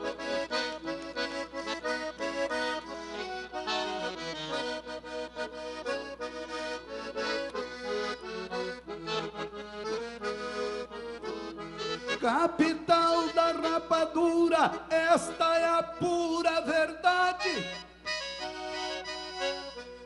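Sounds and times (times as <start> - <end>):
accordion playing: 0.0 - 20.0.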